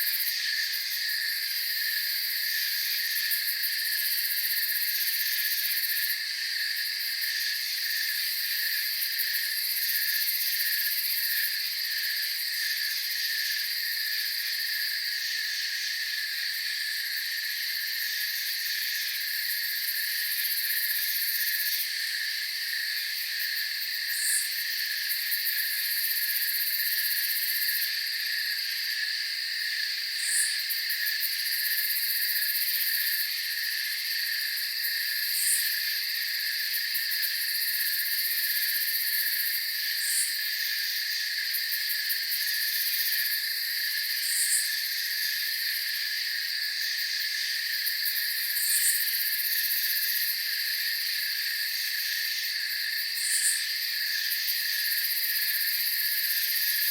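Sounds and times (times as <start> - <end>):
crickets and insects trilling: 0.0 - 56.9
low pulsing insect trill: 0.0 - 56.9.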